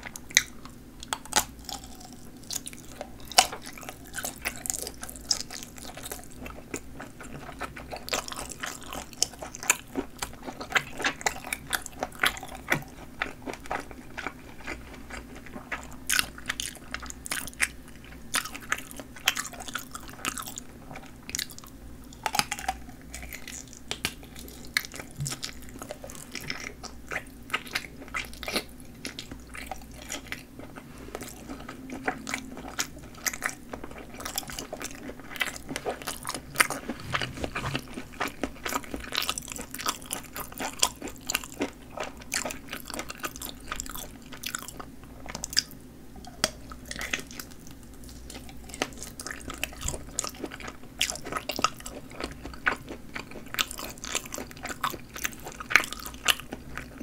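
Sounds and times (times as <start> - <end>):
chewing and biting sausages: 0.0 - 57.0.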